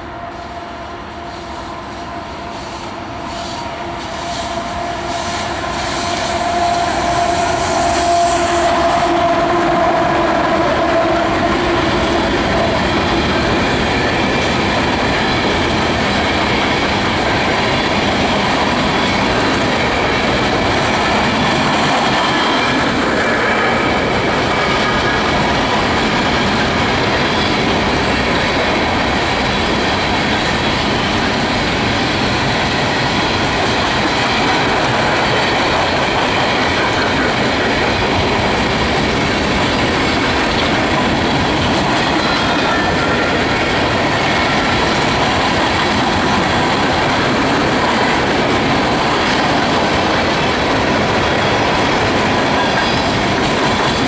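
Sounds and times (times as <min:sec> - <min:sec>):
train wheel squeal: 0:00.0 - 0:54.0.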